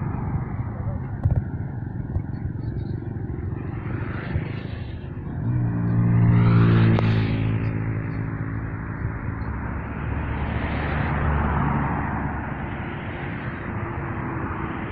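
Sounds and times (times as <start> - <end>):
road noise rumble: 0.0 - 14.9.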